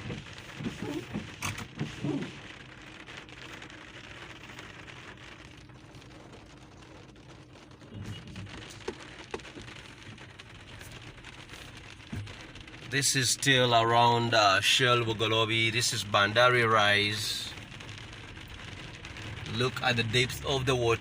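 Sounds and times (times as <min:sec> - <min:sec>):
low rumbles: 0:00.0 - 0:21.0.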